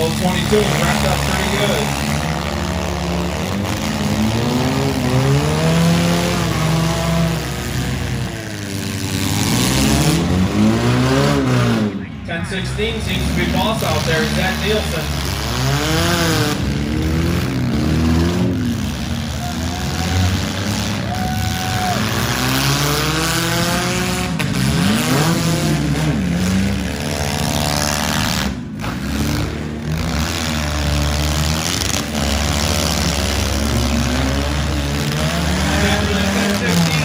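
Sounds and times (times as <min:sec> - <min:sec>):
car engines revving hard: 0:00.0 - 0:37.0.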